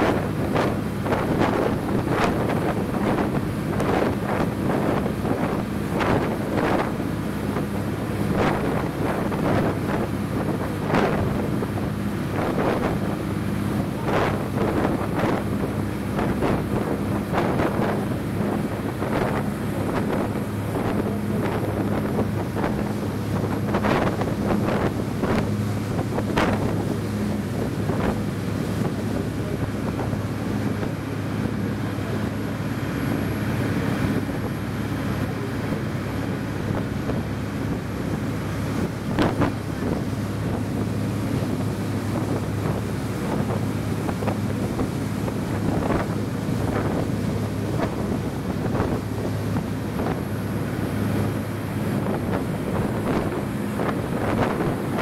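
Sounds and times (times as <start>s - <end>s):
boat engine droning: 0.0s - 55.0s
water rushing in wake: 0.0s - 55.0s
wind buffeting microphone: 0.0s - 55.0s.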